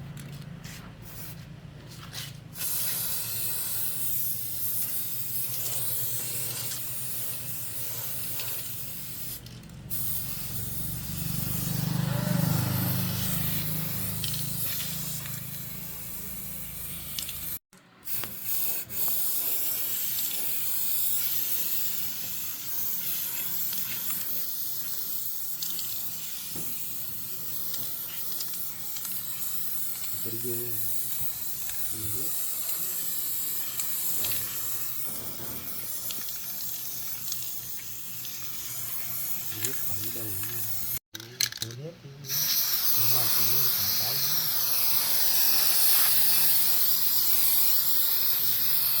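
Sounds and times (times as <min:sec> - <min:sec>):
high-pressure spray hissing: 0:02.6 - 0:41.1, 0:42.3 - 0:49.0.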